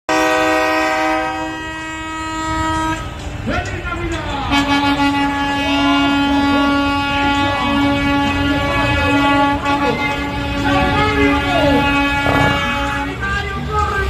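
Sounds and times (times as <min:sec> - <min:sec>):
truck air horn blast: 0:00.1 - 0:03.4, 0:04.4 - 0:13.4.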